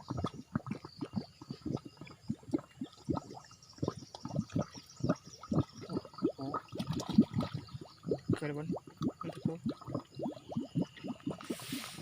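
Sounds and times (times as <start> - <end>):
water spurting and gurgling: 0.0 - 12.0.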